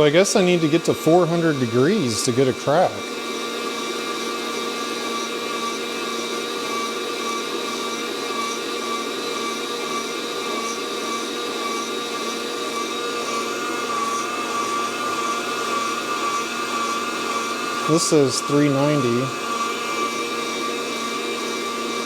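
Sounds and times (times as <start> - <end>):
coffee roaster fan whirring: 0.0 - 22.0.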